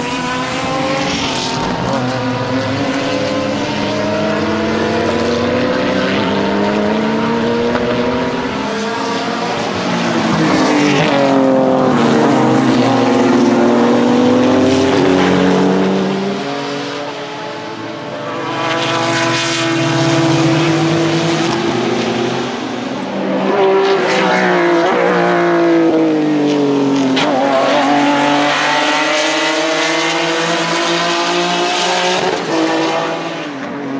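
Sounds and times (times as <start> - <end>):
race car engine revving: 0.0 - 33.9.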